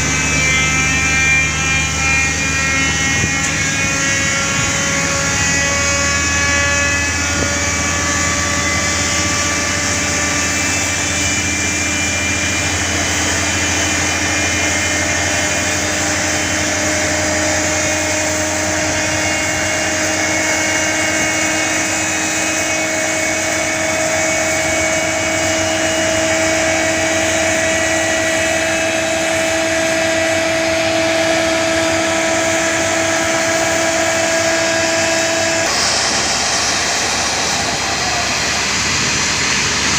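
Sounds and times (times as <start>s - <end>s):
jet engine spooling up: 0.0s - 39.9s.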